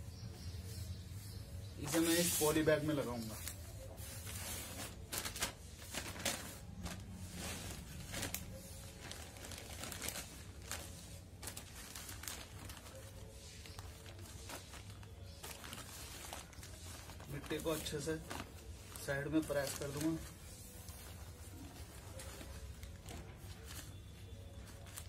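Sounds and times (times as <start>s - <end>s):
plastic bag crinkling: 1.8s - 25.0s.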